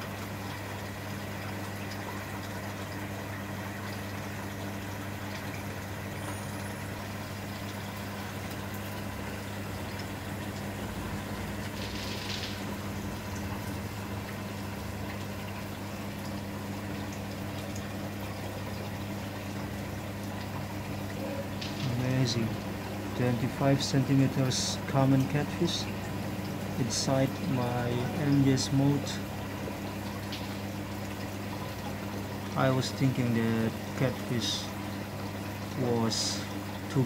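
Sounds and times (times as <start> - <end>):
aquarium pump humming: 0.0 - 37.0.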